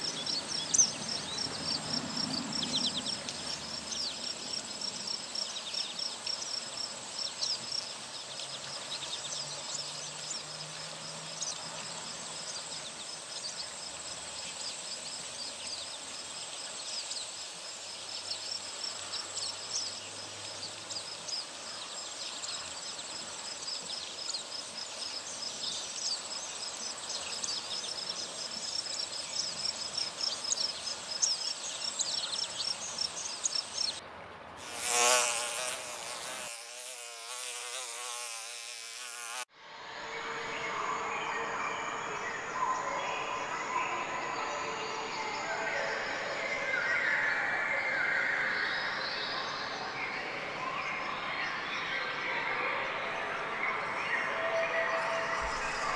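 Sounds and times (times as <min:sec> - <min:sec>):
insects trilling: 0:00.0 - 0:34.0, 0:34.6 - 0:53.8, 0:55.4 - 0:55.9.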